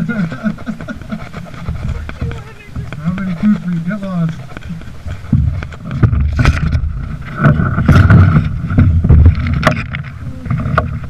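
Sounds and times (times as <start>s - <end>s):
microphone handling noise: 0.0s - 11.0s
wind rumble on microphone: 0.0s - 11.0s
sharp knocks and clicks: 0.7s - 11.0s.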